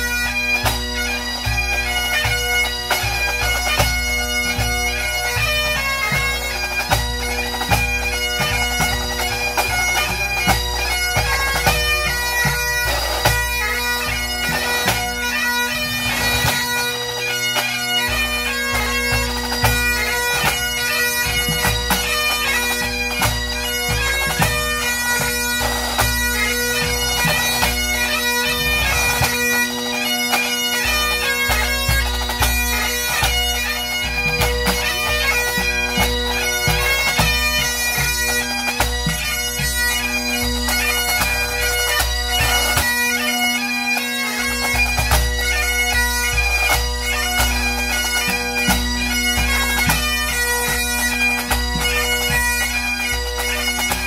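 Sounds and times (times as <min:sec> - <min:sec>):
bagpipes playing melody with drones: 0:00.0 - 0:54.0
pipe band drums beating: 0:00.0 - 0:54.0.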